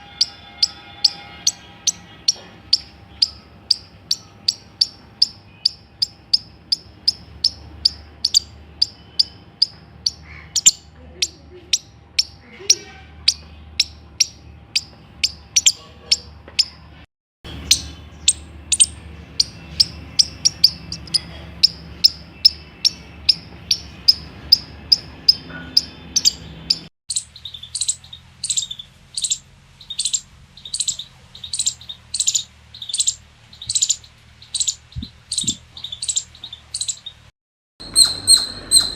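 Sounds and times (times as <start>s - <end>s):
squirrel alarm chirps: 0.0s - 16.8s, 17.5s - 38.9s.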